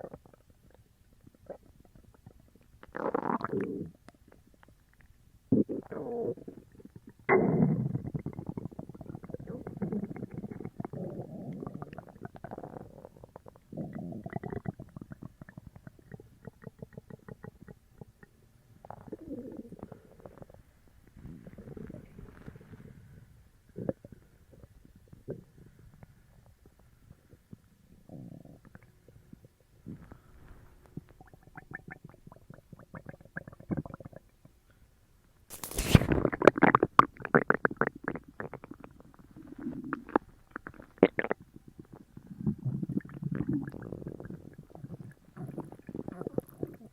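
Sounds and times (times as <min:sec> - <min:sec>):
stomach gurgling and rumbling: 0:00.0 - 0:34.7, 0:35.5 - 0:46.9.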